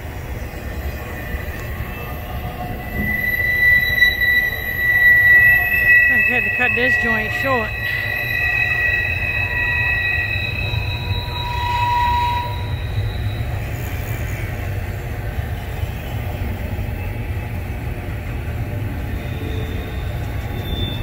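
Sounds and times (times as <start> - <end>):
freight train rumble: 0.0 - 21.0
high-pitched wheel squeal: 0.0 - 21.0.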